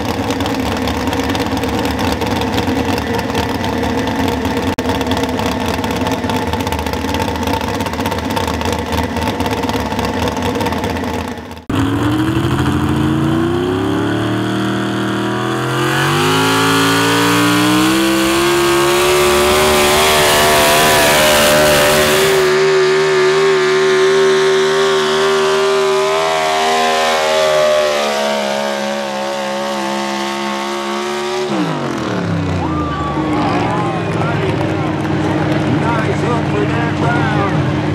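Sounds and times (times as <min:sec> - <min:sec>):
truck engine at full throttle: 0:00.0 - 0:37.9.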